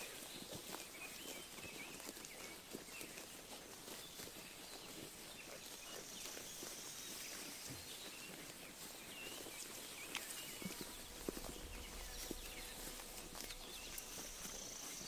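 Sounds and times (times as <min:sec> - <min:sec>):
sheep tearing and chewing grass: 0:00.0 - 0:15.0.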